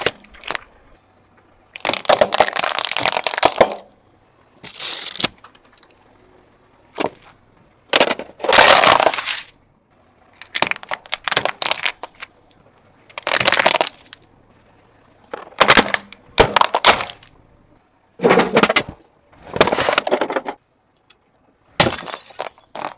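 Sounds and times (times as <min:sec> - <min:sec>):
car tyre crushing objects: 0:00.0 - 0:06.2, 0:06.9 - 0:09.6, 0:10.2 - 0:14.6, 0:15.2 - 0:17.5, 0:18.2 - 0:20.7, 0:21.6 - 0:22.9.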